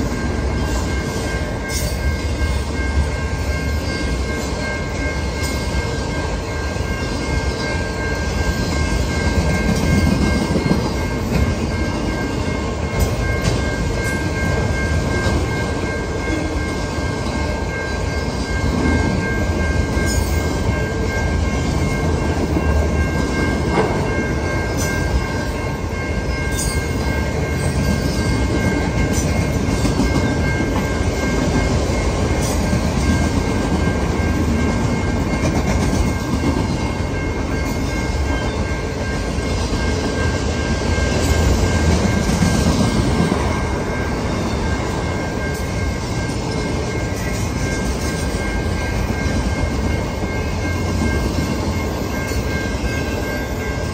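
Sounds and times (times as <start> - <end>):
steady high tones: 0.0 - 53.9
train wheels clattering on rail: 0.0 - 53.9.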